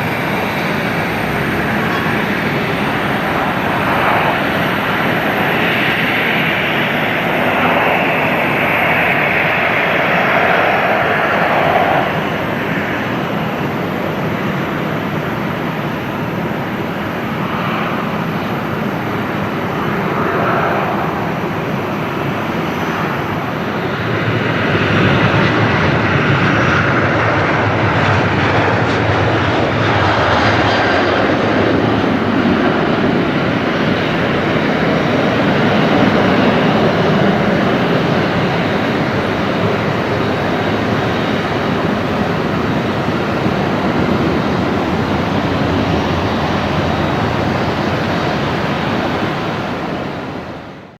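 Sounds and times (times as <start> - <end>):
jet airliner engines landing: 0.0 - 50.9.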